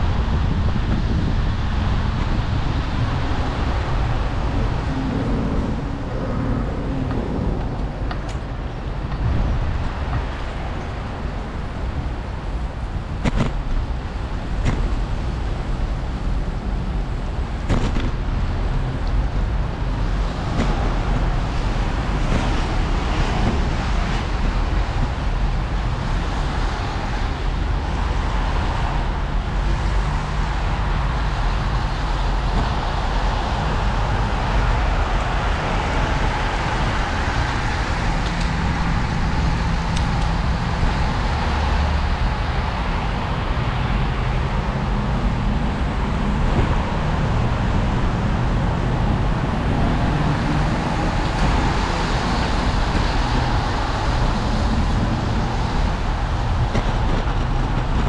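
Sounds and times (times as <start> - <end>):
bicycle tyres on wet road: 0.0 - 58.0
wind on microphone: 0.0 - 58.0.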